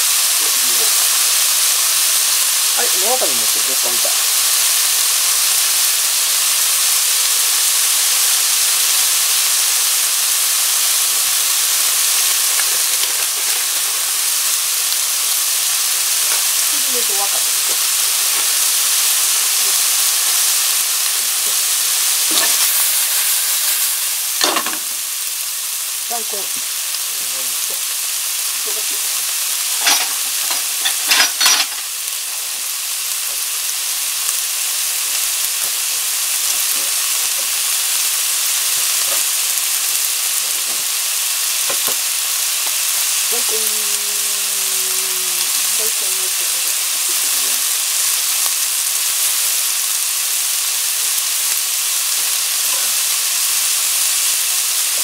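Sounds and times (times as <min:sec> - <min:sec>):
stir-fry sizzling in a pan: 0:00.0 - 0:55.0.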